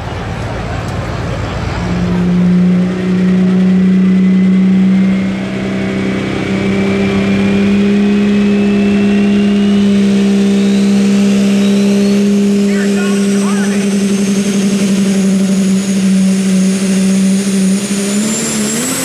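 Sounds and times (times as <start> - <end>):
truck engine at high revs: 0.0 - 19.0
thin rising whine: 1.6 - 19.0.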